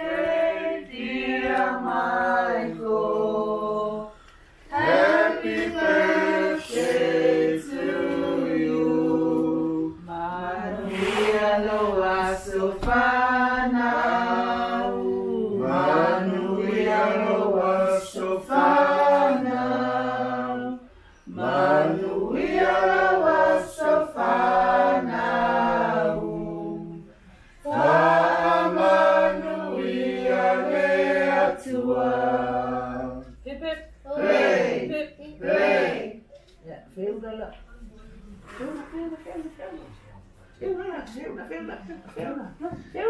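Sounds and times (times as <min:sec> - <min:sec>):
group singing unaccompanied: 0:00.0 - 0:36.3.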